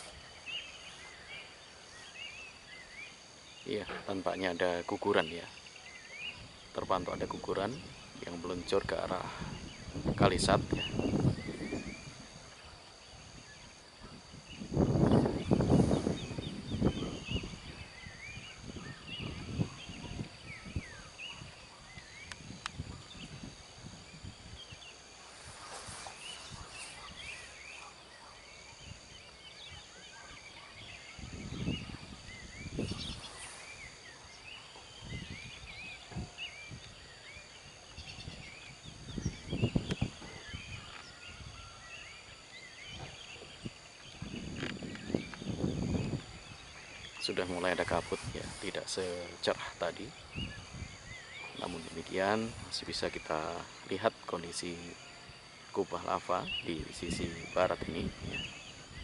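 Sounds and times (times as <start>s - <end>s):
high insect drone: 0.0s - 59.0s
small birds chirping: 0.0s - 59.0s.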